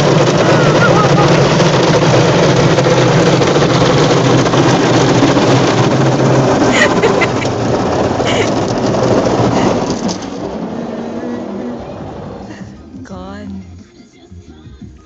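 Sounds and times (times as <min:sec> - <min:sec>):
water drumming on car body: 0:00.0 - 0:13.1.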